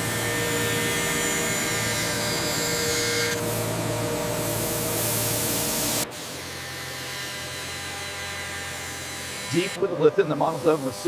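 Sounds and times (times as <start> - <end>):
milling machine whine: 0.0 - 11.0.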